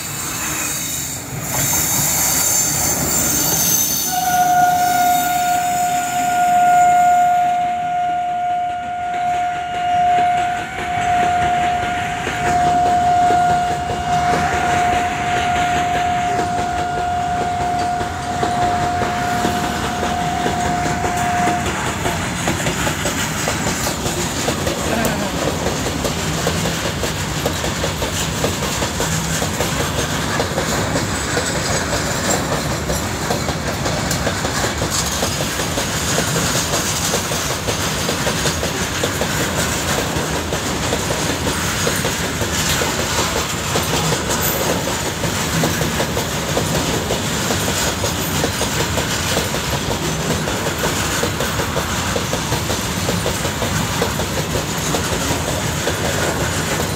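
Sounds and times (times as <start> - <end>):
train wheels clattering on rails: 0.0 - 56.9.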